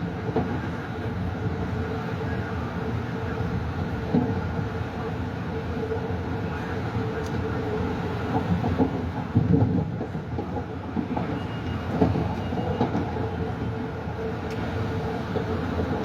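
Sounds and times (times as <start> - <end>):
train rumble inside car: 0.0 - 16.0.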